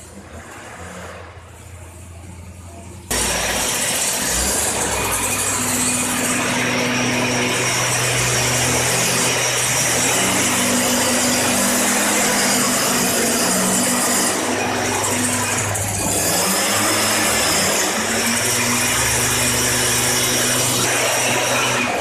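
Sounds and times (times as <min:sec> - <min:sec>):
two-stroke engine running: 0:03.1 - 0:22.0.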